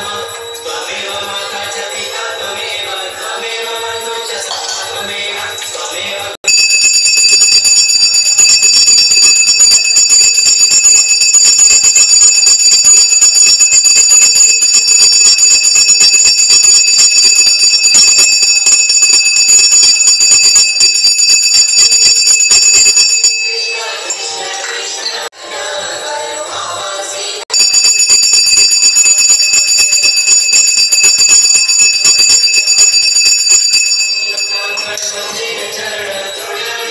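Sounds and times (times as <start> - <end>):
bell ringing rapidly: 0.0 - 25.3, 27.5 - 36.9.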